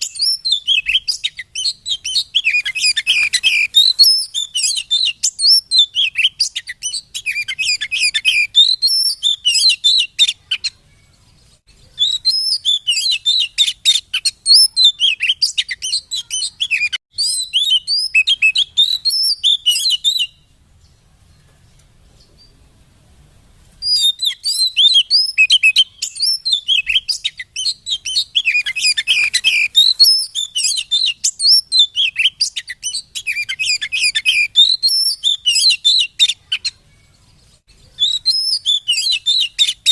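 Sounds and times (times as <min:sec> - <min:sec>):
bird singing chirps and whistles: 0:00.0 - 0:21.0, 0:23.8 - 0:39.9.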